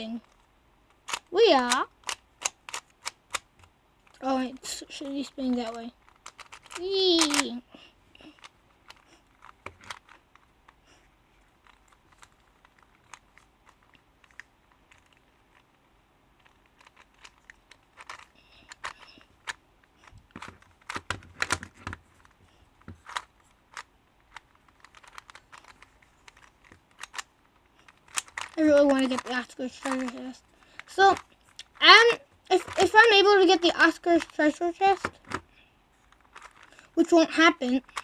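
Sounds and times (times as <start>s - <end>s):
plastic puzzle pieces clicking: 0.2s - 7.6s, 8.2s - 15.8s, 16.4s - 38.0s.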